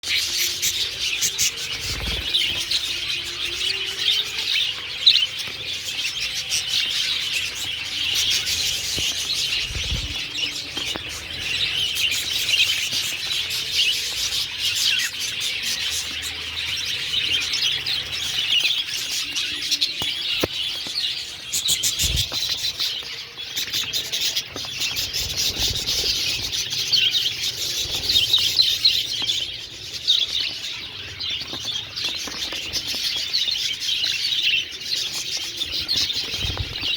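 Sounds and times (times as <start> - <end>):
many small birds chirping: 0.0 - 36.9.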